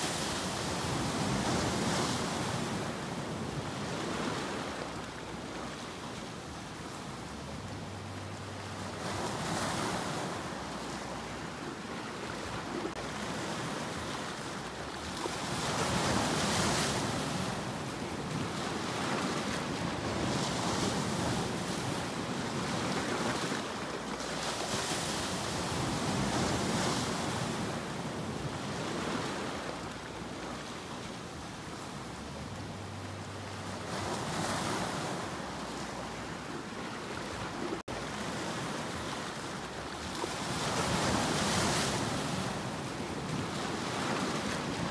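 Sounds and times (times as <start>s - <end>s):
sea surf on rocks: 0.0s - 44.9s.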